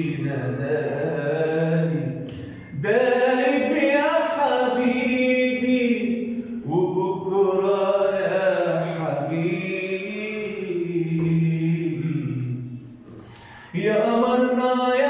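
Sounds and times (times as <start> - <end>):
man singing unaccompanied: 0.0 - 13.0, 13.7 - 15.0.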